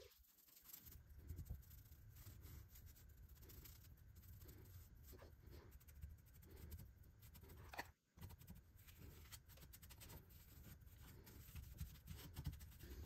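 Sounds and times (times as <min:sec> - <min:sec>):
small brush scratching: 0:00.0 - 0:13.0.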